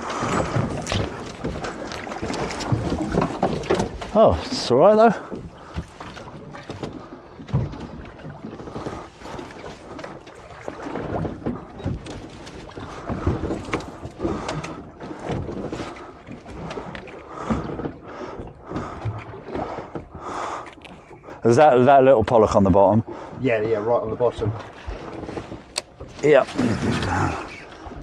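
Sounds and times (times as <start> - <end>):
water slapping against hull: 0.0 - 28.0.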